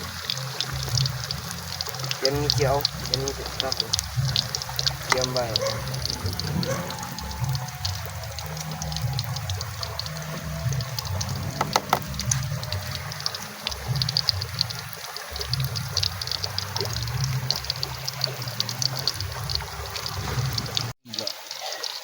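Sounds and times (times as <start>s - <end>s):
small crackly ticks: 0.0s - 22.0s
water trickling and splashing: 0.0s - 22.0s.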